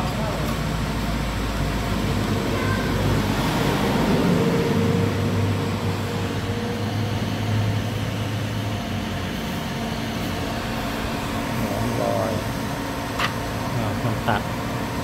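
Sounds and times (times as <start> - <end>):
low drone: 0.0 - 15.0
mechanical hum and rush: 0.0 - 15.0.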